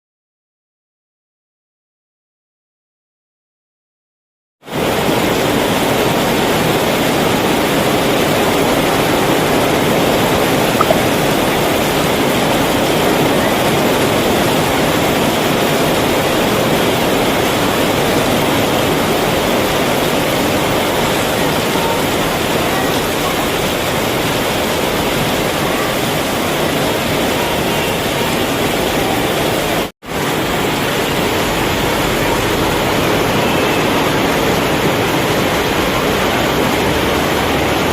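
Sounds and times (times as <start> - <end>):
heavy rain falling: 4.7 - 37.9.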